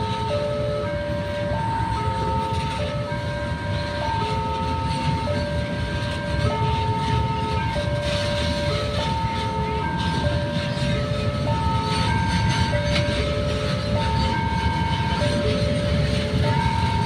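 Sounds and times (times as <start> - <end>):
freight train rumbling past: 0.0 - 17.0
level crossing two-tone alarm: 0.0 - 17.0.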